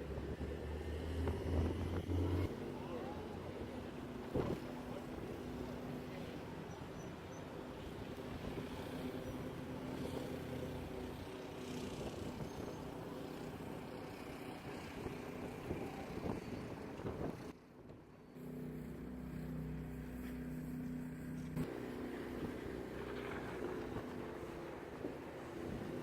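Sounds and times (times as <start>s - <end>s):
road noise: 0.0s - 26.0s
vehicle engines running: 0.0s - 26.0s.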